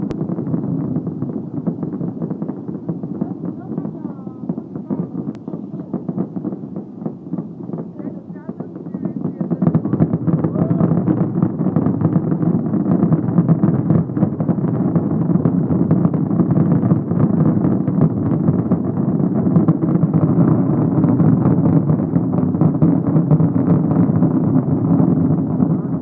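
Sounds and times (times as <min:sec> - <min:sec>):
fireworks popping and cracking: 0:00.0 - 0:26.0
fireworks rumble: 0:00.0 - 0:26.0.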